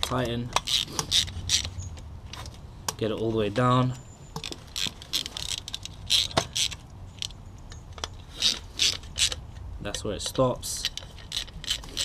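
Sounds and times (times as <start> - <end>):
socket ratchet clicking: 0.0 - 2.5, 4.4 - 12.0.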